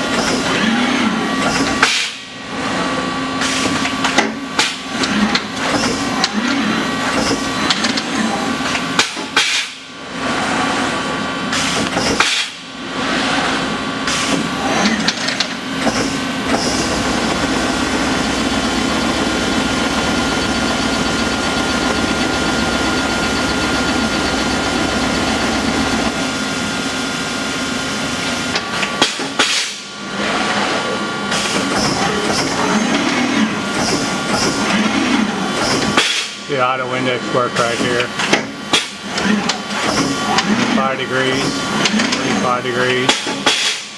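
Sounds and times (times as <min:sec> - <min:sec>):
machine hum with fixed tones: 0:00.0 - 0:43.9.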